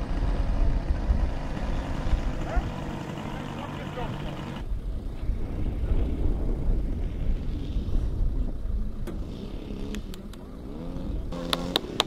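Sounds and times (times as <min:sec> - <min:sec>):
wind rumbling on microphone: 0:00.0 - 0:03.1, 0:04.1 - 0:12.0
model airplane engine: 0:00.0 - 0:12.0.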